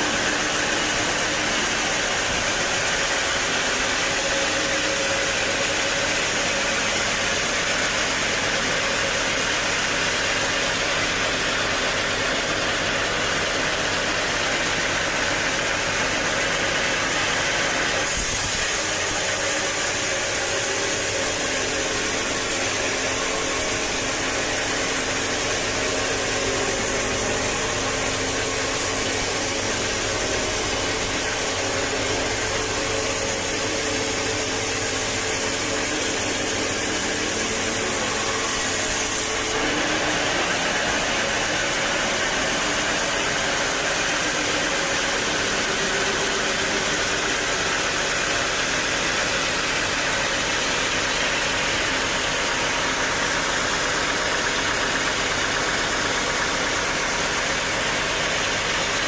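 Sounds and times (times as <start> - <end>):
band saw cutting log: 0.0 - 56.6.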